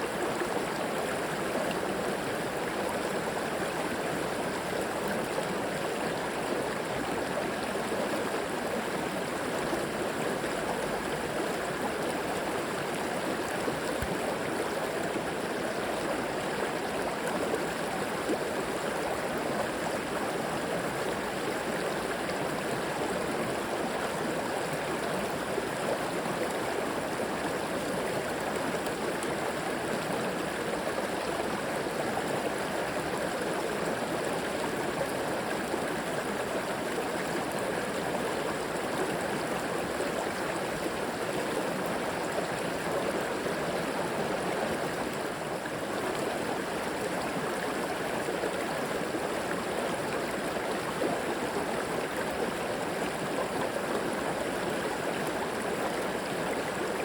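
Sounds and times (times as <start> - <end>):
river water gurgling over rocks: 0.0 - 57.0.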